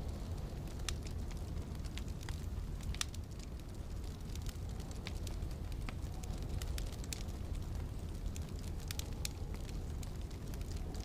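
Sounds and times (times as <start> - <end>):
low rumble of wind: 0.0 - 11.0
wood fire crackling and popping: 0.0 - 11.0.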